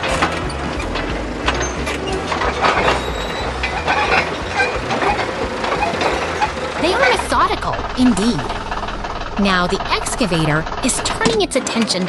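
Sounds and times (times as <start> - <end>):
excavator engine rumble: 0.0 - 12.0
metal and rubble clanking: 0.0 - 12.0.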